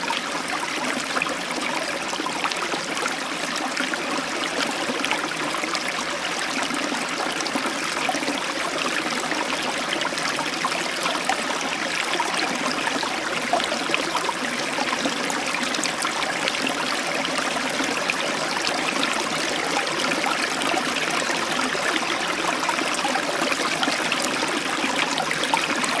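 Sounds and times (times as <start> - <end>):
aquarium water trickling and splashing: 0.0 - 26.0.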